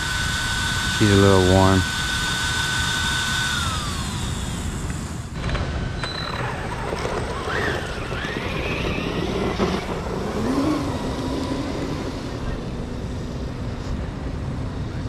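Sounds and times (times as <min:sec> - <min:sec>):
electric motor whining: 0:00.0 - 0:13.6
steady noisy background: 0:00.0 - 0:15.0.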